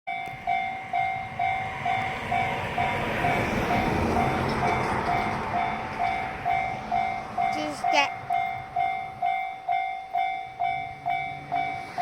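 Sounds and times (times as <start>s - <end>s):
level crossing bell ringing: 0.1s - 12.0s.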